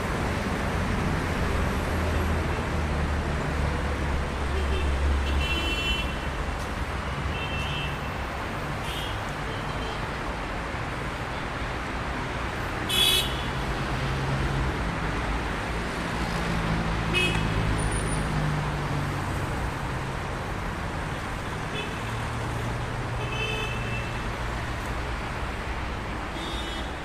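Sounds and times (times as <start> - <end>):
road traffic hum: 0.0 - 27.0.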